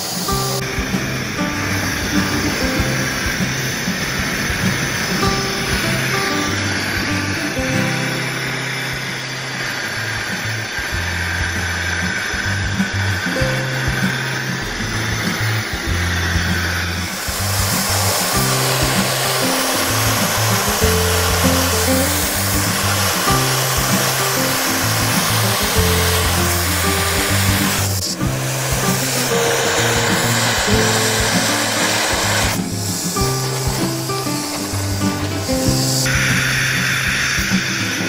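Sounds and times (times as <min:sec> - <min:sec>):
gas torch flame hissing: 0:00.0 - 0:38.0
background music with bass line: 0:00.2 - 0:09.4, 0:10.1 - 0:38.0.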